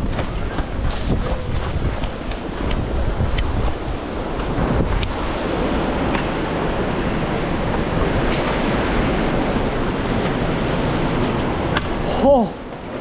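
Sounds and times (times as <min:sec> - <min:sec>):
wind buffeting microphone: 0:00.0 - 0:13.0
river water rushing: 0:01.5 - 0:13.0.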